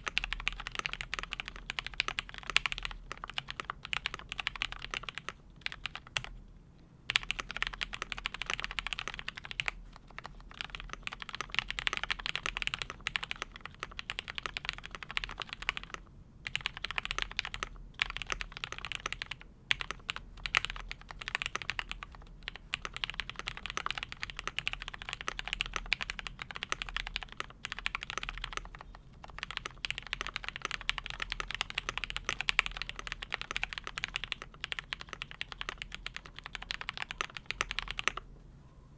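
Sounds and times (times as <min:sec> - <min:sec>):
mechanical keyboard typing: 0:00.0 - 0:06.3, 0:07.1 - 0:38.2.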